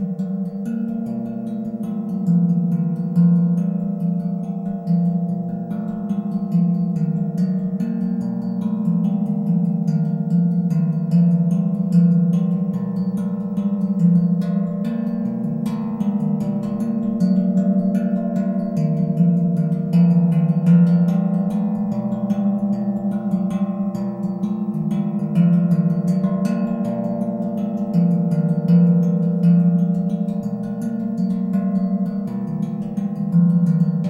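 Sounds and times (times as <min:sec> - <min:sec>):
tongue drum ringing metal notes: 0:00.0 - 0:34.0.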